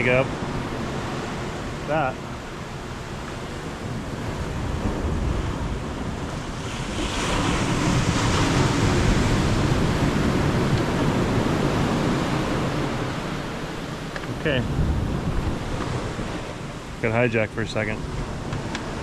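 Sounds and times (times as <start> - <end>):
ocean waves breaking on shore: 0.0 - 19.0
wind buffeting microphone: 0.0 - 19.0.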